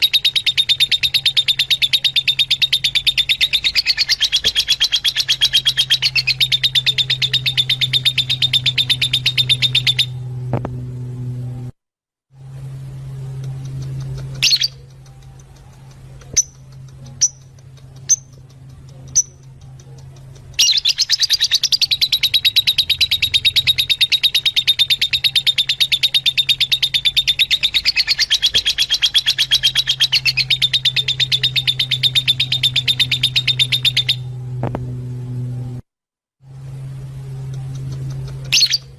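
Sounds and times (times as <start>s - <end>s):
lovebirds chirping: 0.0s - 10.2s, 13.4s - 34.3s, 37.5s - 38.9s
low hum: 0.0s - 38.9s.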